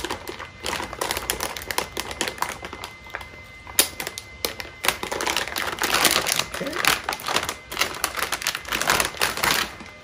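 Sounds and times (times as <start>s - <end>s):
plastic packing rustling: 0.0s - 10.0s.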